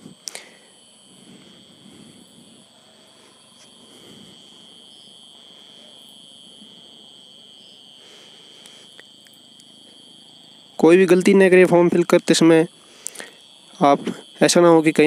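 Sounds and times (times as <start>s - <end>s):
insects chirring: 0.0s - 15.0s
room hiss: 0.0s - 15.0s.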